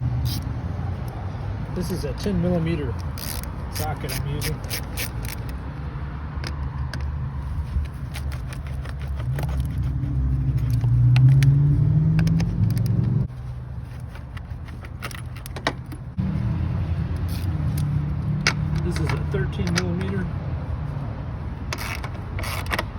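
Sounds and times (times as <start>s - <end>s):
vehicle engine humming: 0.0s - 22.9s.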